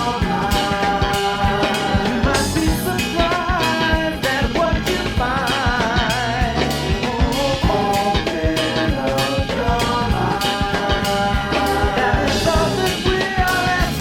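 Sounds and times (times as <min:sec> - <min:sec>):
drum kit steady beat: 0:00.0 - 0:14.0
guitar and bass: 0:00.0 - 0:14.0.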